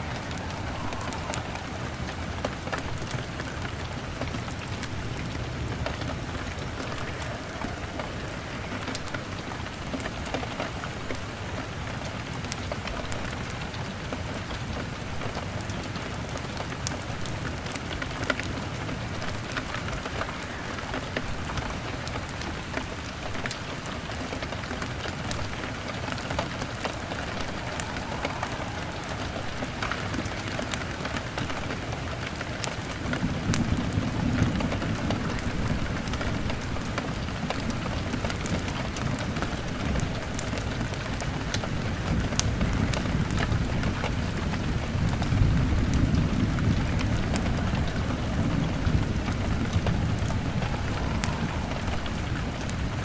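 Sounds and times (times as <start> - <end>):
log fire crackling: 0.0 - 11.9, 16.6 - 53.0
rain pattering on a window: 0.0 - 53.0.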